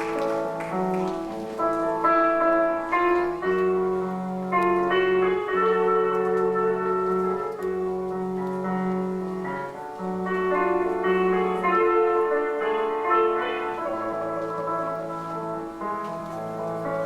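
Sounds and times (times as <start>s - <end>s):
slow keyboard chords: 0.0s - 17.0s.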